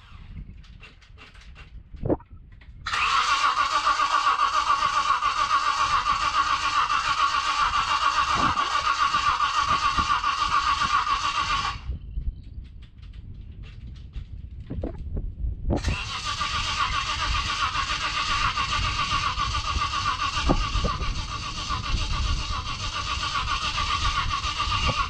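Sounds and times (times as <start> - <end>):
starter motor cranking engine: 0.0 - 1.7, 2.8 - 12.0, 15.8 - 25.0.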